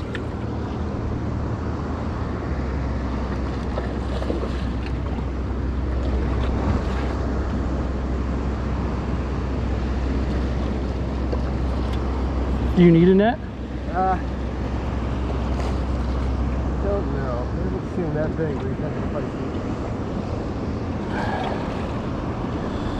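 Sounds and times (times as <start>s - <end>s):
steady low hum: 0.0s - 22.9s
water around boat: 0.0s - 22.9s.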